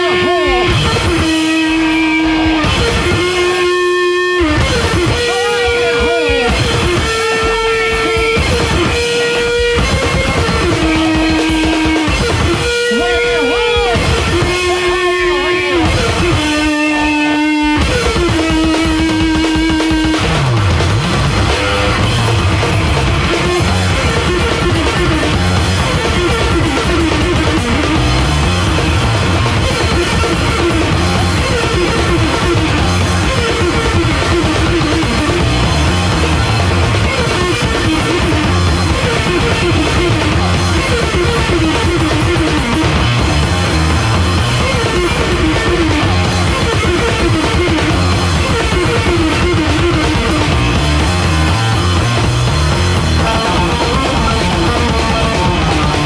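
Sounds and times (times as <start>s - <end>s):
distorted bass guitar riff: 0.0s - 56.0s
fast drum kit playing: 0.0s - 56.0s.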